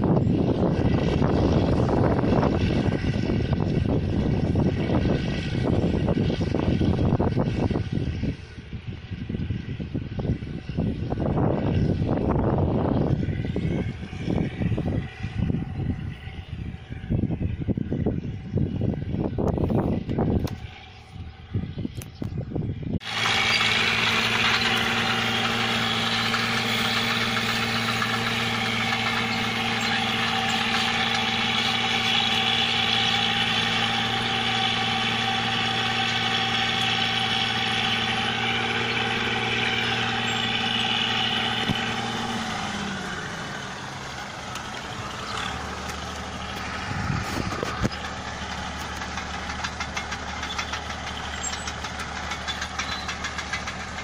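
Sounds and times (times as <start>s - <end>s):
combine harvester engine: 0.0s - 54.0s.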